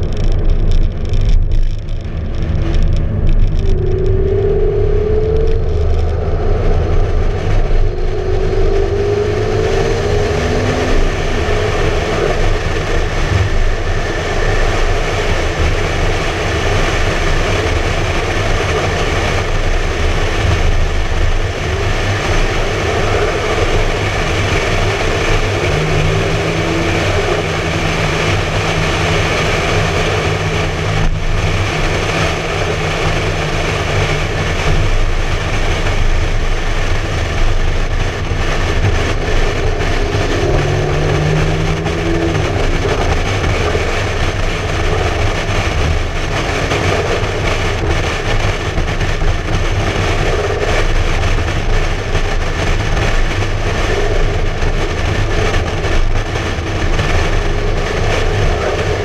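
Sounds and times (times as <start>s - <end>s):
car engine driving: 0.0s - 59.0s
road noise: 0.0s - 59.0s
steady low drone: 0.0s - 59.0s
wind noise: 0.0s - 59.0s.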